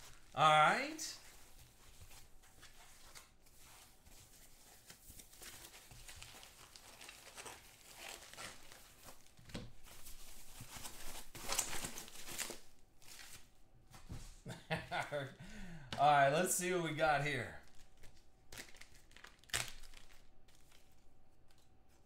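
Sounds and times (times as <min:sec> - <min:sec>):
foam packing sheet crinkling: 0:00.0 - 0:13.5, 0:17.5 - 0:22.0.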